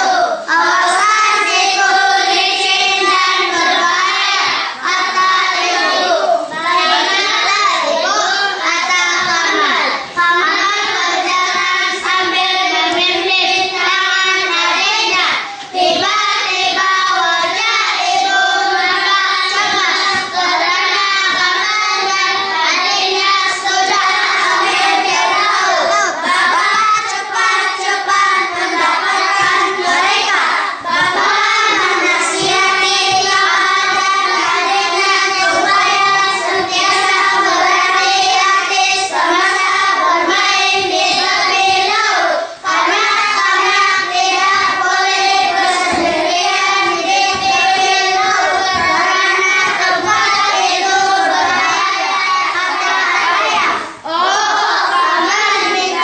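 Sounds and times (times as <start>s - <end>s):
children chanting in unison: 0.0s - 56.0s.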